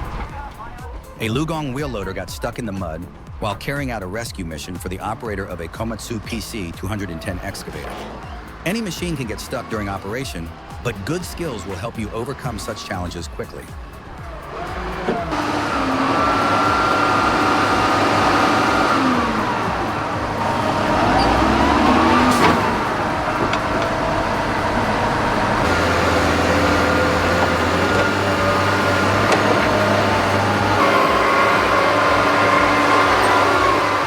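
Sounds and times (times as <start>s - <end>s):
heavy diesel machinery engines revving: 0.0s - 34.0s.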